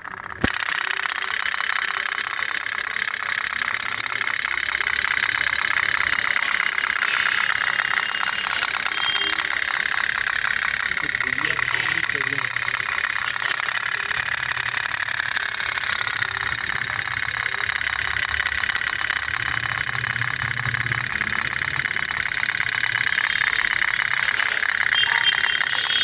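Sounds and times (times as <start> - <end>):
pop-pop steam boat engine putting: 0.0 - 26.0.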